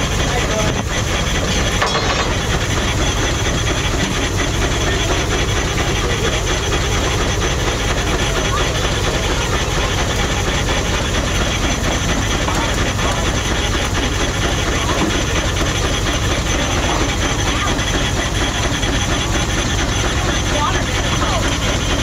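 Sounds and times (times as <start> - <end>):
steam engine mechanical clatter: 0.0 - 22.0.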